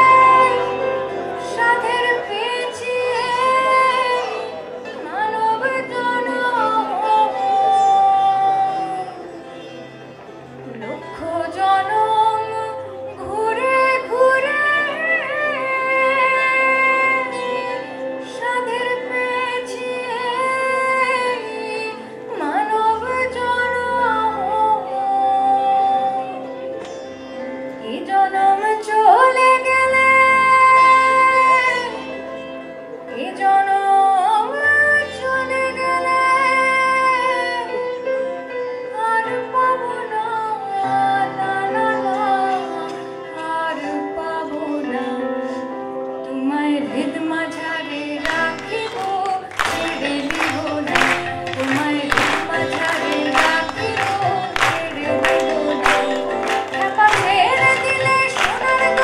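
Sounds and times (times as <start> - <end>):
woman singing: 0.0 - 9.4, 10.7 - 26.7, 27.8 - 59.0.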